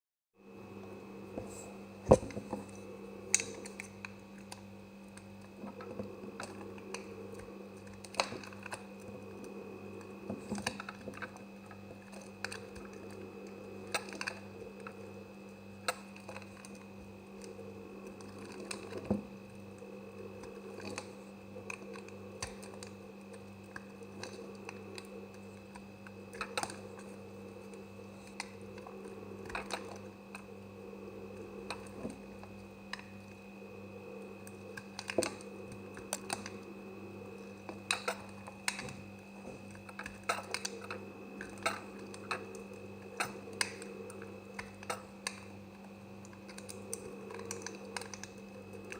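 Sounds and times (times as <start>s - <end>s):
steady low hum: 0.4s - 48.9s.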